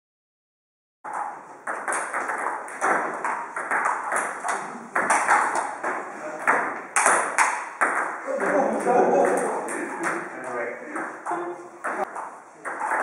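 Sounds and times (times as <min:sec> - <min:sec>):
table tennis balls clicking: 0:01.1 - 0:13.0.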